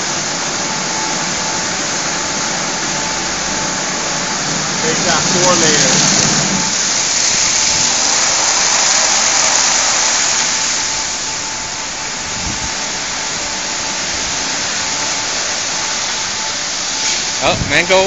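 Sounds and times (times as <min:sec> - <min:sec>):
car wash brushes and water jets: 0:00.0 - 0:18.0.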